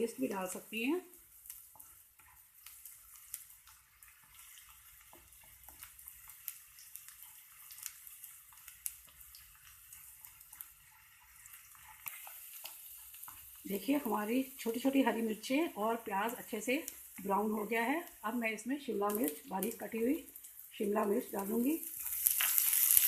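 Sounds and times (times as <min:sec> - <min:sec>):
crackles and pops of frying: 0:00.0 - 0:23.0
onions sizzling in a pan: 0:00.0 - 0:23.0.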